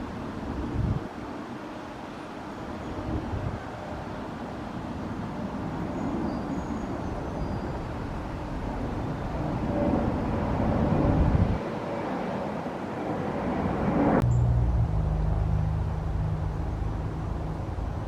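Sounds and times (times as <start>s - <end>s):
wind buffeting microphone: 0.0s - 1.2s, 3.0s - 4.1s, 5.1s - 18.0s.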